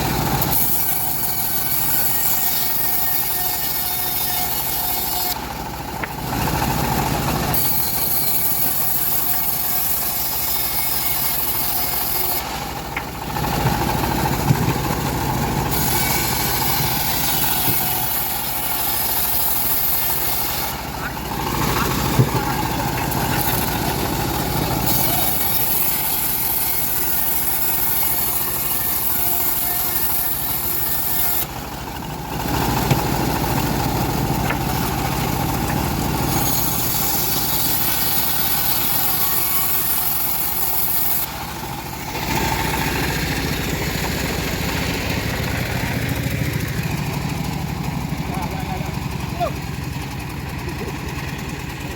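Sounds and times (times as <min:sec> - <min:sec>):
saw blade cutting log: 0:00.0 - 0:51.9
sawmill engine running: 0:00.0 - 0:51.9.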